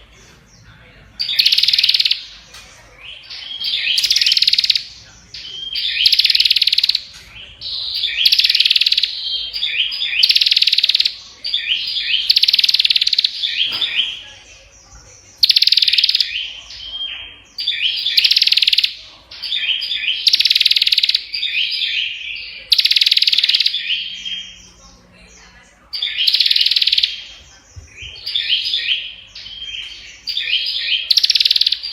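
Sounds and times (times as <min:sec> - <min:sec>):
bird singing buzzy rattling phrases: 0:00.0 - 0:31.9.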